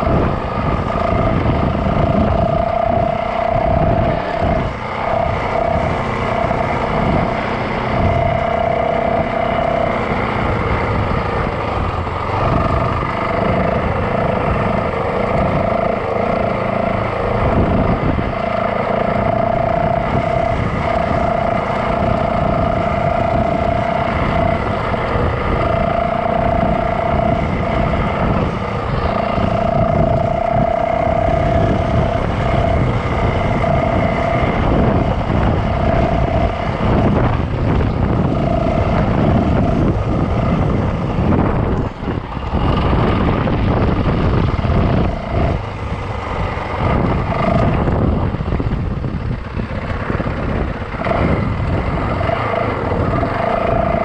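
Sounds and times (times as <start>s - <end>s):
dirt bike engine whining: 0.0s - 54.0s.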